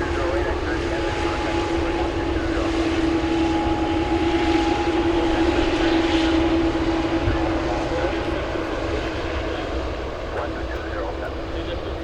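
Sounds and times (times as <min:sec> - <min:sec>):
airliner engines running: 0:00.0 - 0:12.0.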